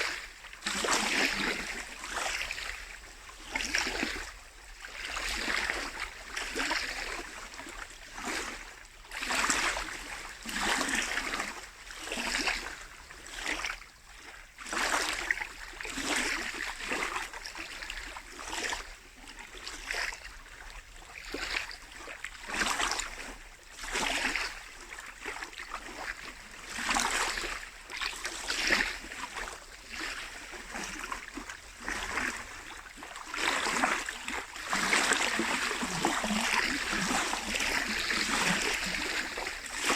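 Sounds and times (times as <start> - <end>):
waves lapping at shore: 0.0 - 39.9.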